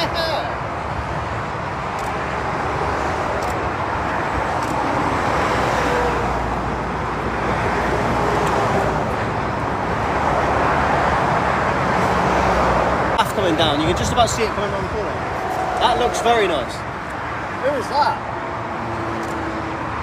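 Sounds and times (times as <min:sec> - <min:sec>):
motorway traffic rushing: 0:00.0 - 0:20.0.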